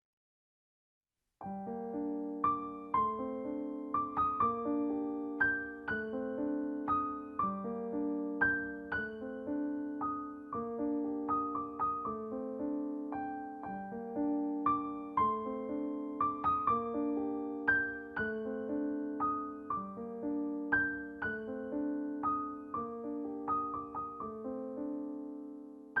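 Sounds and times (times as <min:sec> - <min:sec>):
slow soft solo piano: 0:01.4 - 0:26.0.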